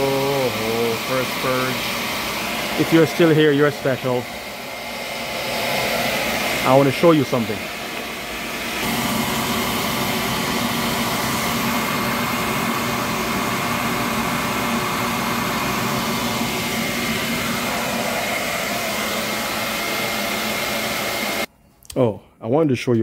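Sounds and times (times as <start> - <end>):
burner blower rushing: 0.0 - 21.5.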